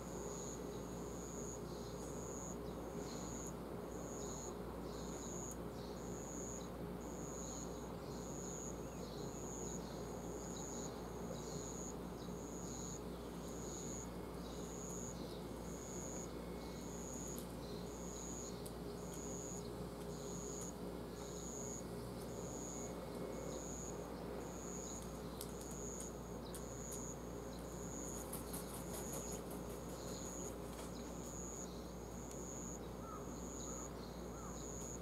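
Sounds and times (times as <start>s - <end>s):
insect chirping: 0.0s - 35.0s
low steady hum: 0.0s - 35.0s.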